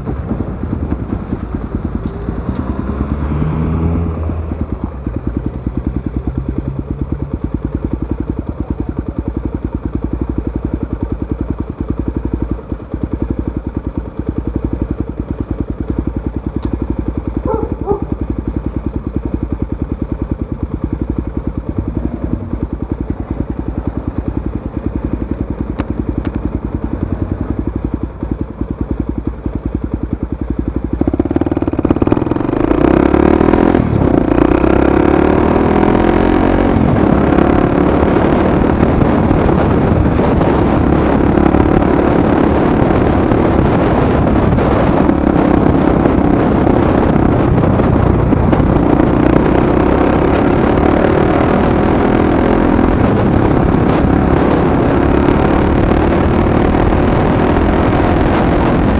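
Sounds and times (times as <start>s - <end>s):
motorcycle engine idling and revving: 0.0s - 58.9s.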